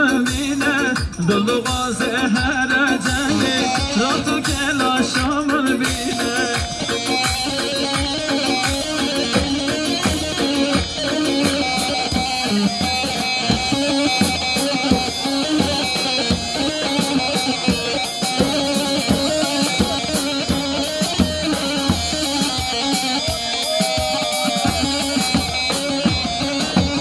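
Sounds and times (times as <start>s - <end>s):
band dance music: 0.0s - 27.0s
steady drum beat: 0.0s - 27.0s.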